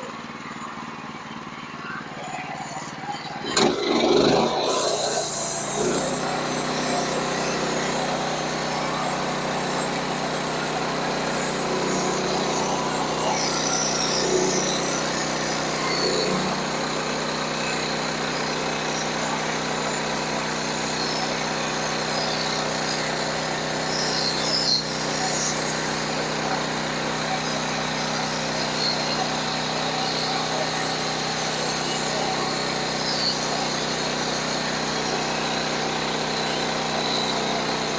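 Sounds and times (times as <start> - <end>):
sawmill engine running under load: 0.0 - 37.9
saw cutting through log: 2.4 - 37.9.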